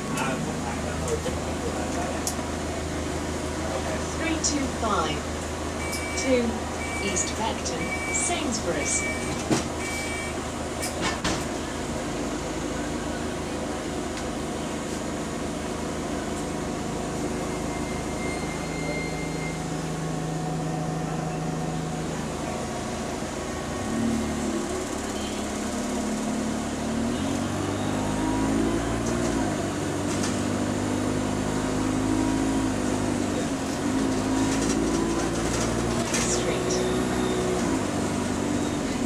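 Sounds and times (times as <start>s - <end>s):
bus diesel engine: 0.0s - 39.0s.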